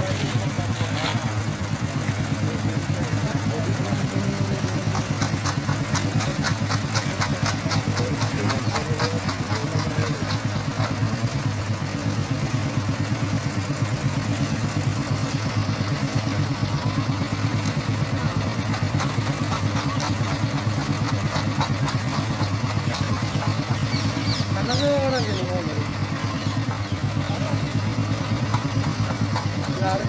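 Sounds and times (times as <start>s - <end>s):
construction machinery engine drone: 0.0s - 30.0s.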